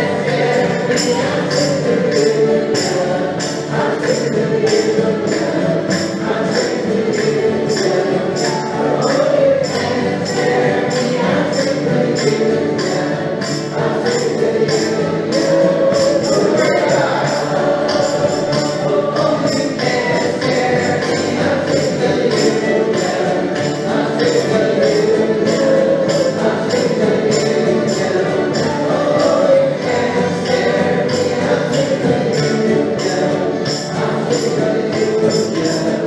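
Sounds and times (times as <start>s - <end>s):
guitars and banjos strumming: 0.0s - 36.0s
tambourine shaken: 0.0s - 36.0s.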